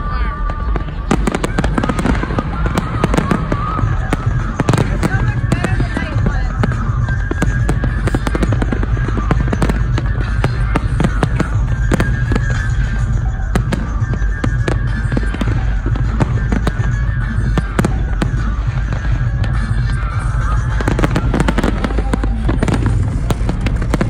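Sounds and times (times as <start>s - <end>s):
fireworks bursting and crackling: 0.0s - 24.0s
loud music with heavy bass: 0.0s - 24.0s.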